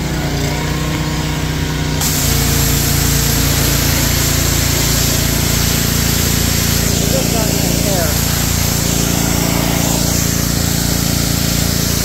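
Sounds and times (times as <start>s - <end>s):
pressure washer motor hum: 0.0s - 12.0s
water spray hissing: 2.0s - 12.0s.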